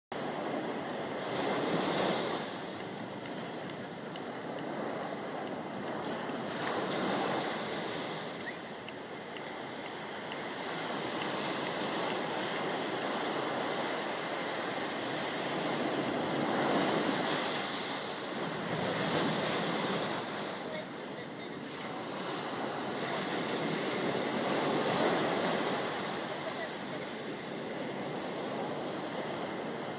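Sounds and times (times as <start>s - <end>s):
small waves breaking on a beach: 0.2s - 29.9s.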